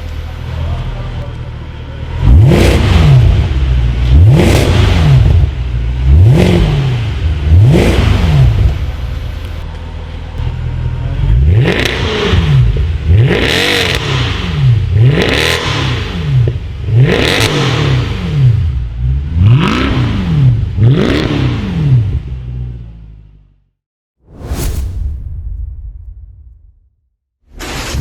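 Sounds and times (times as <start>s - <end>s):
car engine revving: 0.0s - 23.4s.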